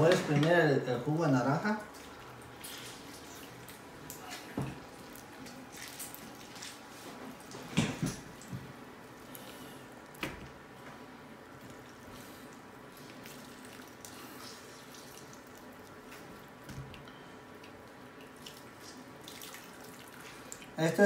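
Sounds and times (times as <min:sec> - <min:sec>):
juice dripping with faint squishing: 0:00.0 - 0:21.0.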